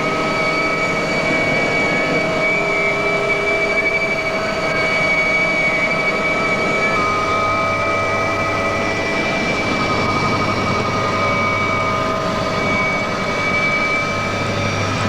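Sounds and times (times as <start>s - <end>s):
helicopter engines and rotor: 0.0s - 15.0s
high engine whine: 0.0s - 15.0s.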